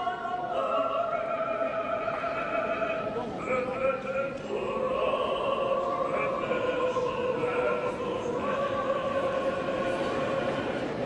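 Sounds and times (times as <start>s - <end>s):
choir singing sustained notes: 0.0s - 11.0s.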